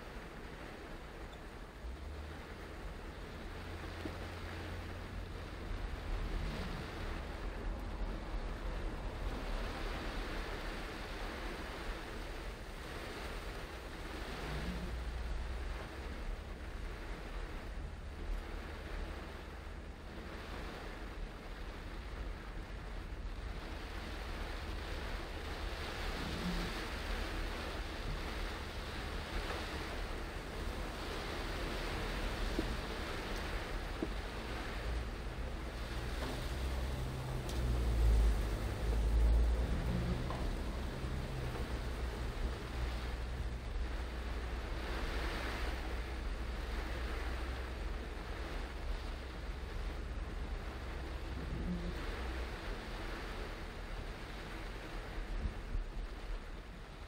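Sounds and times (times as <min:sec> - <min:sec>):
car running rumble: 0:00.0 - 0:57.0
tyres hissing on wet road: 0:00.0 - 0:57.0.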